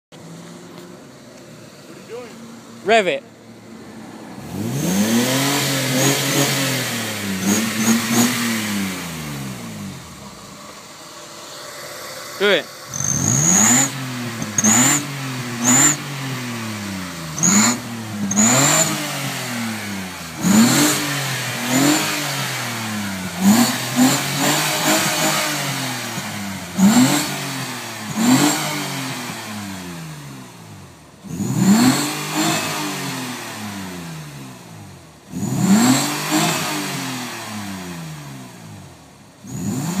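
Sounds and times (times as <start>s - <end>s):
car engine revving: 1.8s - 40.0s.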